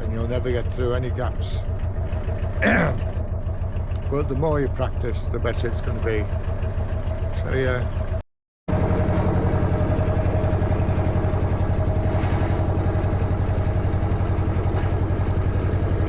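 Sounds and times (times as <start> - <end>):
boat diesel engine pulsing: 0.0 - 16.0.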